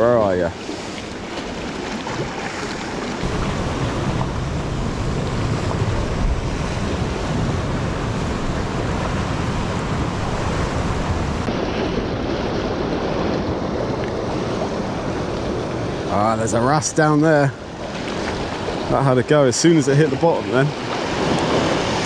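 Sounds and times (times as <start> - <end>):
waves breaking against rocks: 0.0 - 22.0
wind buffeting microphone: 1.1 - 19.4.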